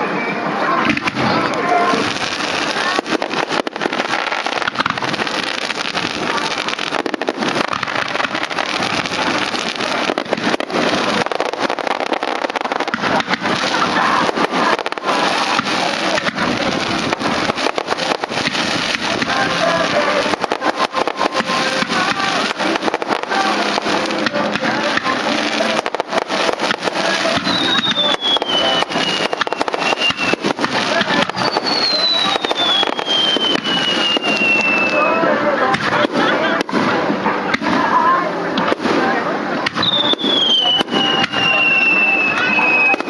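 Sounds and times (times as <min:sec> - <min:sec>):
fireworks crackling and popping: 0:00.0 - 0:43.0.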